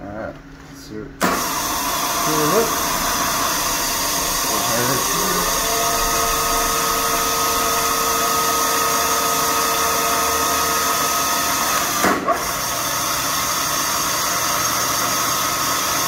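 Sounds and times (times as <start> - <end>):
milling machine motor running: 1.2 - 16.0.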